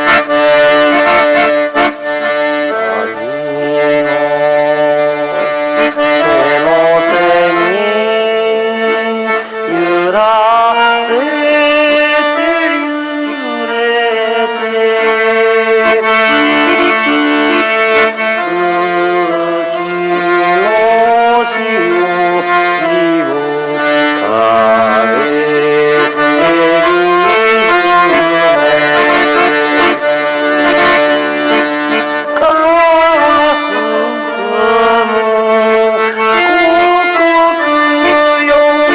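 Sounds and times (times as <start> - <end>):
accordion slow melody: 0.0 - 38.9.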